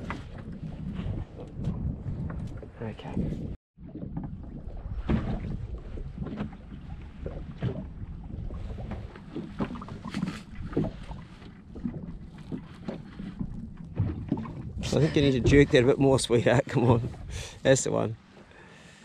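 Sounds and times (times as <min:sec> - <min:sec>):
wind rumbling on microphone: 0:00.0 - 0:18.2
waves slapping against boat hull: 0:00.0 - 0:18.6.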